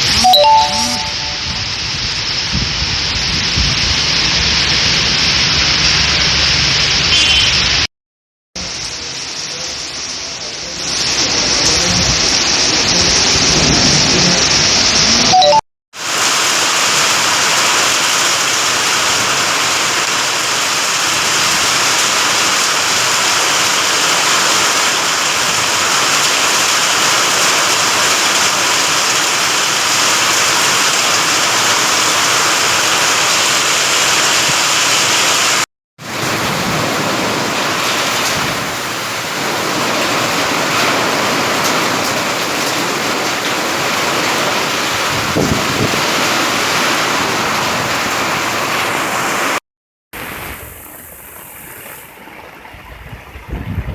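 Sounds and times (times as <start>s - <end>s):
heavy rain downpour: 0.0s - 7.9s, 8.6s - 49.6s.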